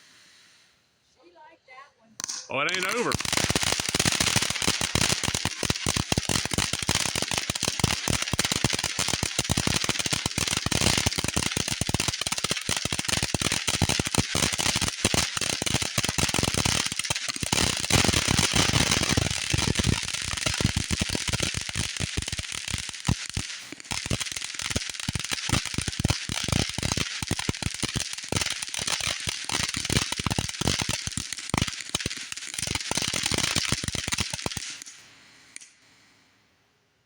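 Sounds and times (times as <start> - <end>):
fireworks popping and crackling: 2.2 - 36.0.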